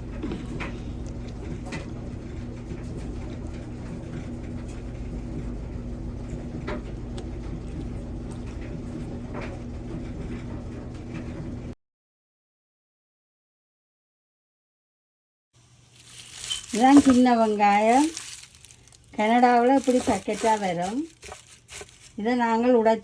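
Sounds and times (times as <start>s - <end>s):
low mechanical hum: 0.0s - 11.8s, 15.6s - 23.0s.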